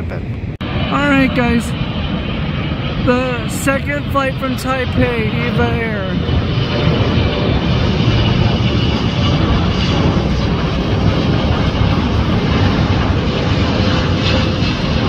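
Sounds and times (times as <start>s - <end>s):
faint jet engine whine: 0.0s - 15.0s
jet engines rumbling: 0.0s - 15.0s.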